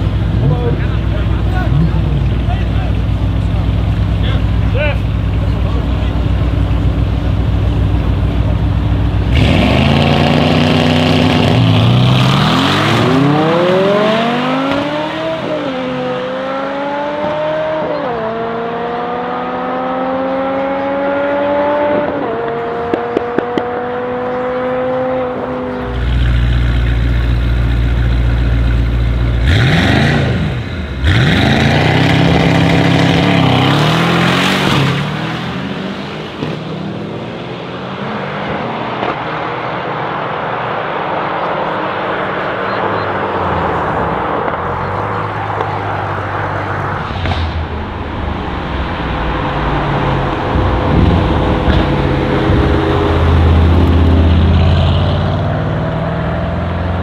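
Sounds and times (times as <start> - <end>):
deep engine idling and revving: 0.0 - 39.4, 42.2 - 57.0
cars launching and upshifting: 0.0 - 57.0.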